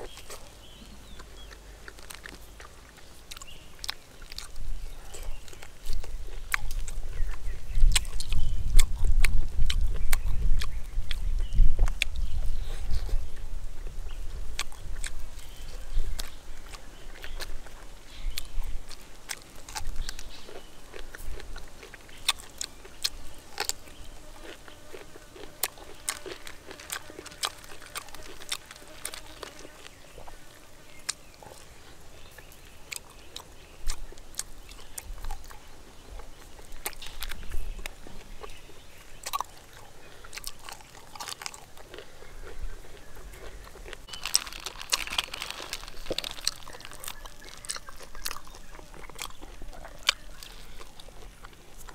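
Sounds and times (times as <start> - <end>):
person chewing meat: 0.0 - 51.9.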